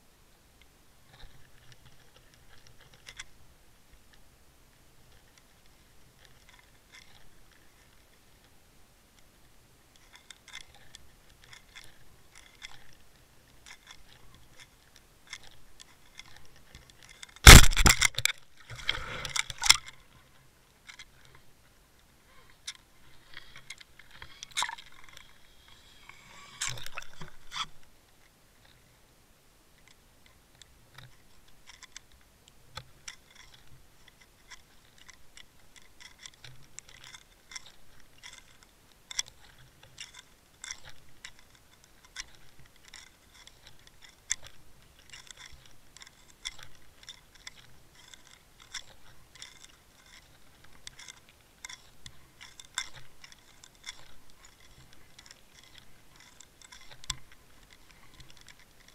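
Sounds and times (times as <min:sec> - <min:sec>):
clicks and scraping rattles: 0:01.1 - 0:03.4, 0:05.0 - 0:08.1, 0:09.9 - 0:28.8, 0:29.8 - 0:58.9.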